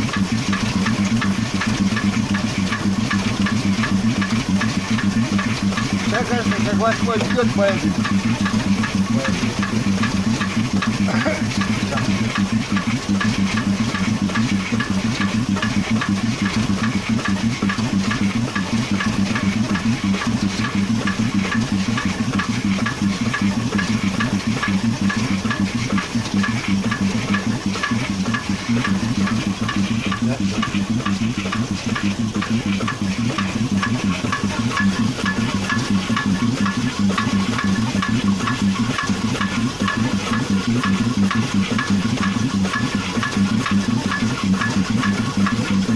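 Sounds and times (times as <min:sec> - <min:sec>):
car engine knocking: 0:00.0 - 0:45.9.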